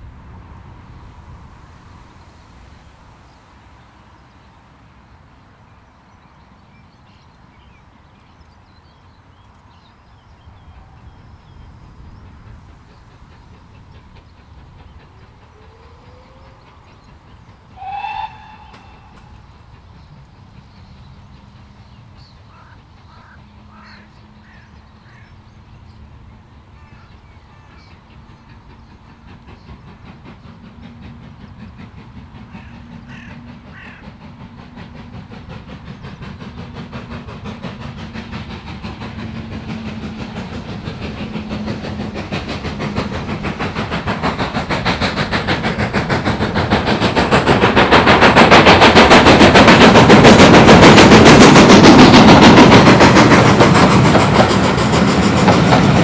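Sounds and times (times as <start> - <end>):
steam locomotive exhaust beats: 0.0 - 56.0.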